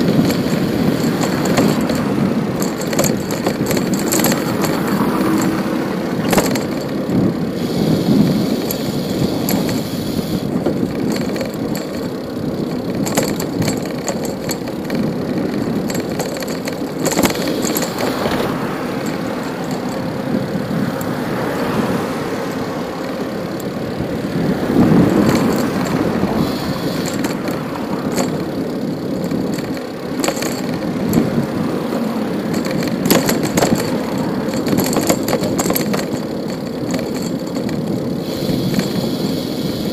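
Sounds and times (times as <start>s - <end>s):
bicycle clicks and rattles: 0.0s - 39.9s
rush of cars: 0.0s - 39.9s.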